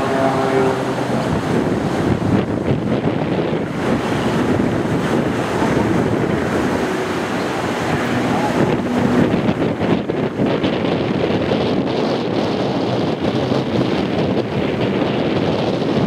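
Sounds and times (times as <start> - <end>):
faint plane engine drone: 0.0 - 16.0
wind buffeting microphone: 0.0 - 16.0.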